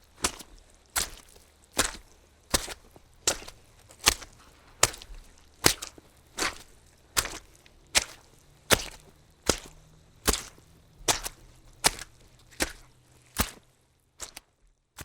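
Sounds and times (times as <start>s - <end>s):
wet footsteps walking: 0.0s - 14.8s.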